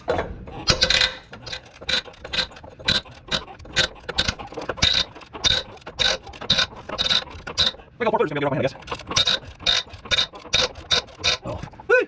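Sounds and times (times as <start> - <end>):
hand ratchet clicking: 0.6 - 7.8, 8.6 - 11.8.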